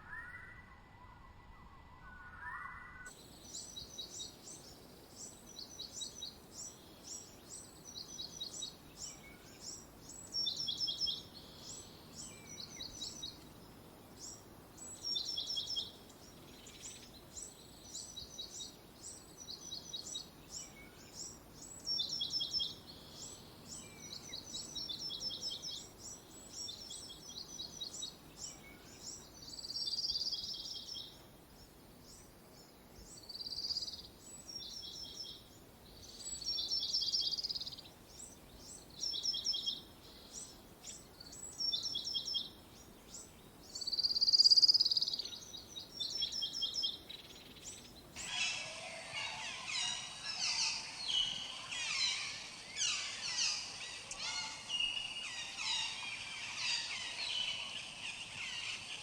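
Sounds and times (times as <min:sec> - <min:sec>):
birds chirping: 0:02.1 - 0:59.0.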